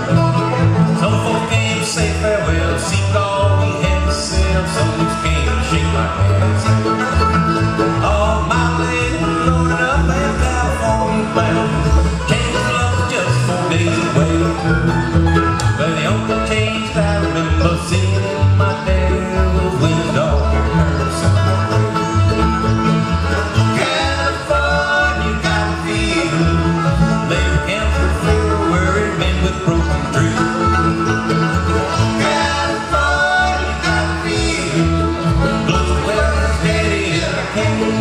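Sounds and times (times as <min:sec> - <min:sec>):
acoustic guitar: 0:00.0 - 0:38.0
banjo: 0:00.0 - 0:38.0
mandolin: 0:00.0 - 0:38.0
upright bass: 0:00.0 - 0:38.0.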